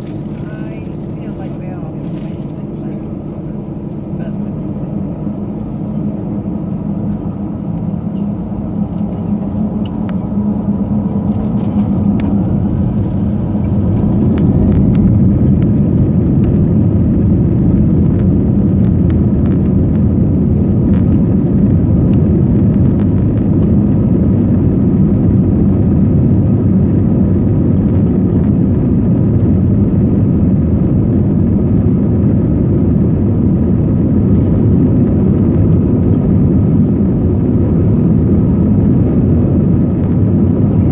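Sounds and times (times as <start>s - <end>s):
aircraft engines rumbling: 0.0s - 40.9s
faint rising whine: 0.9s - 40.9s.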